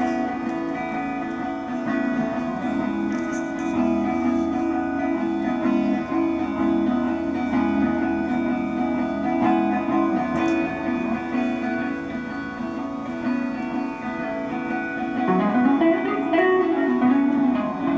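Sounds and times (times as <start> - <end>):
guitar playing sustained notes: 0.0 - 17.9.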